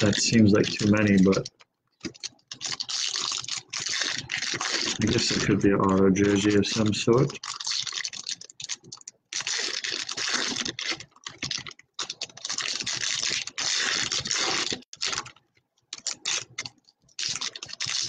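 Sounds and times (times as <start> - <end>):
trading cards rustling and clicking: 0.0 - 18.0.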